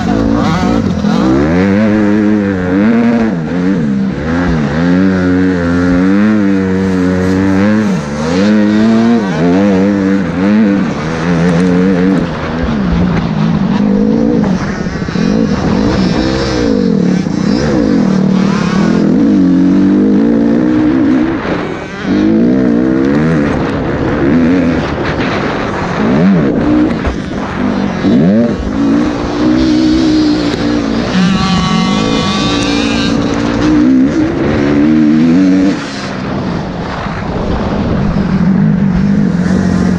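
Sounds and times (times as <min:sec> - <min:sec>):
high-pitched engine: 0:00.0 - 0:37.3
motocross bike engines revving: 0:00.0 - 0:39.9.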